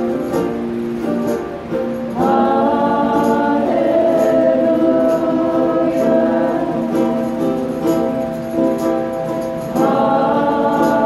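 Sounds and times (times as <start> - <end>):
guitar accompaniment: 0.0 - 11.0
voices singing a hymn: 1.9 - 11.0.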